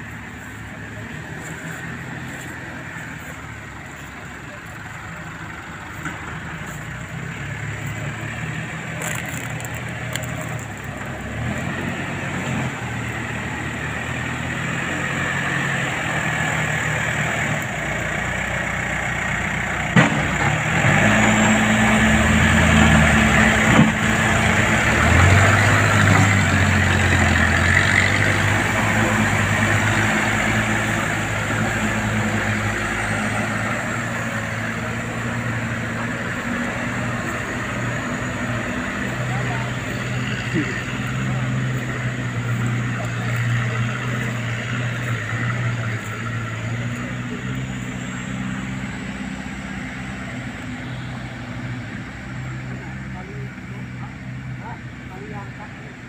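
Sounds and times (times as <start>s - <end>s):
diesel engines under load: 0.0s - 56.0s.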